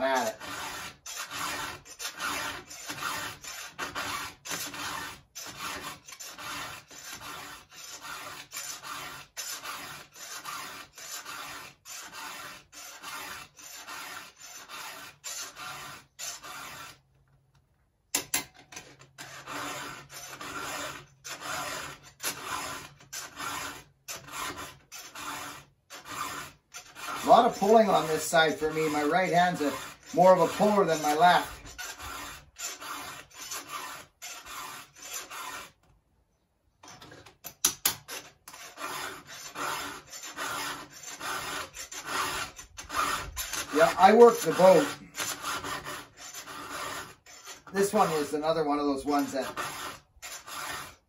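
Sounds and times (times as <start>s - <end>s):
file rasping on chainsaw chain: 0.0s - 17.0s, 18.2s - 35.8s, 37.5s - 51.0s.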